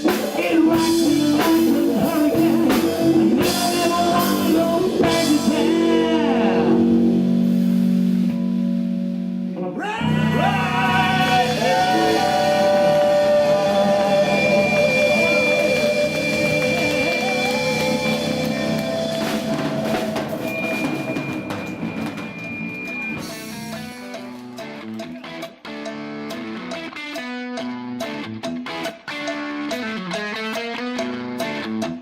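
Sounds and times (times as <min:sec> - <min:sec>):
blues-rock band playing: 0:00.0 - 0:32.0
electric guitar lead line: 0:00.0 - 0:32.0.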